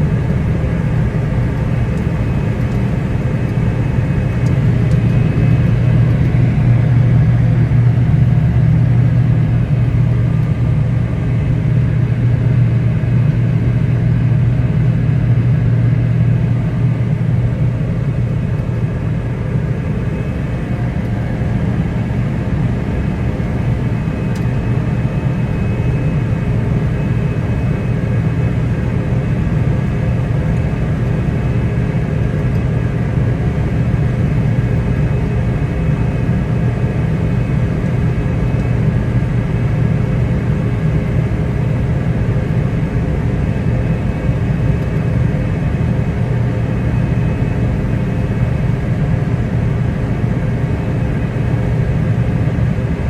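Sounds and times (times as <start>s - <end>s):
harvester engine droning: 0.0s - 53.0s.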